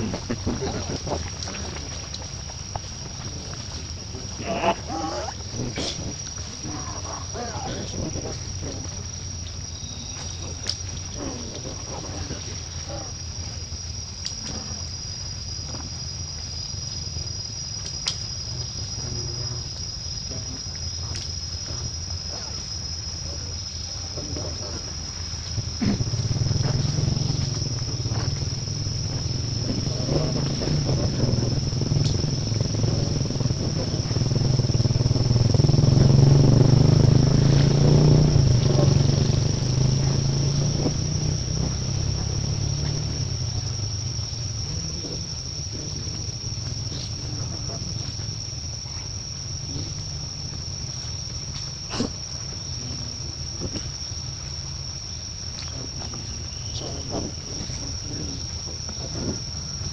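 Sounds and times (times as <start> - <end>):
insect drone: 0.0 - 59.9
motor vehicle rumble: 0.0 - 59.9.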